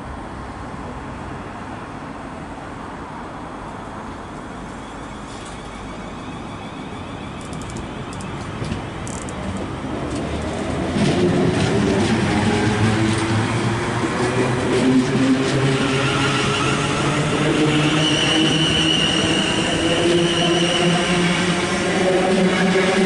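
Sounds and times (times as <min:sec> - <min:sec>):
electric train humming: 0:03.8 - 0:23.0.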